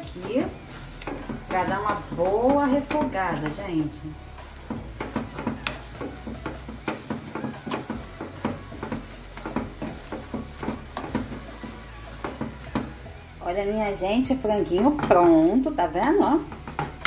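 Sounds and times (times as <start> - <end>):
food sauteing: 0.0 - 17.0
wooden spoon scraping a pot: 0.0 - 17.0.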